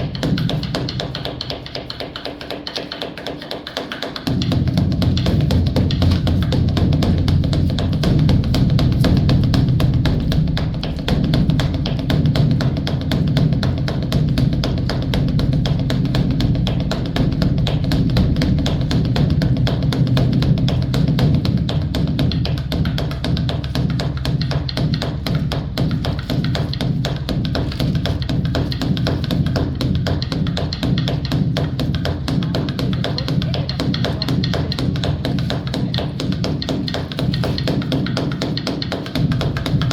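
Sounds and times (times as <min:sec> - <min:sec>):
large drum roll: 0:04.2 - 0:38.3.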